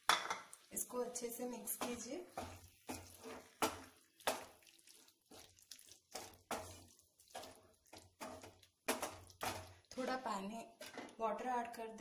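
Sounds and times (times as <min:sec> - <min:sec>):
spatula stirring wet mash: 0:00.0 - 0:11.9.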